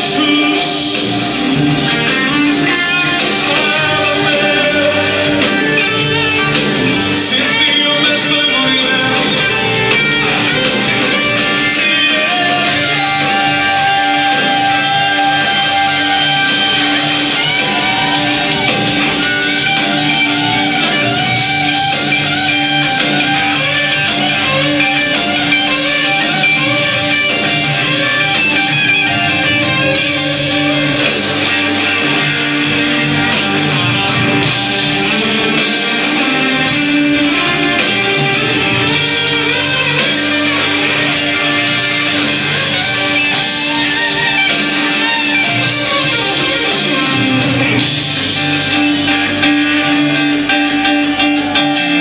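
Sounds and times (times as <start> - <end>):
lead guitar line: 0.0 - 52.0
live band playing: 0.0 - 52.0.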